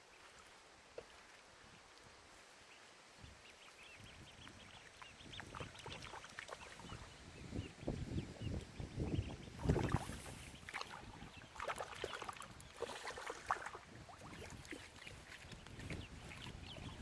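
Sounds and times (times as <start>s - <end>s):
ducklings peeping: 2.6s - 17.0s.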